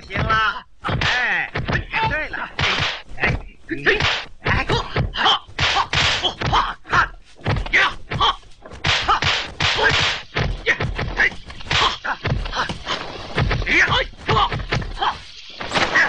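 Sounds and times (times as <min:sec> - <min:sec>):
punch and kick impacts: 0:00.1 - 0:06.8, 0:07.4 - 0:16.0.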